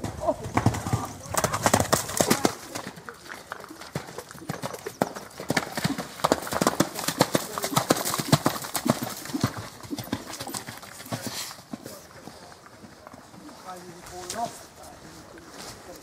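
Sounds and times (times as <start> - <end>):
horse hooves cantering in mud: 0.0 - 16.0.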